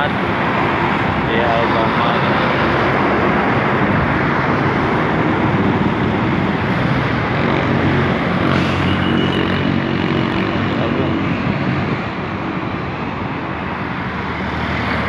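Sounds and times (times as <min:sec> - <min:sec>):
engine hum: 0:00.0 - 0:15.0
road traffic passing: 0:00.0 - 0:15.0.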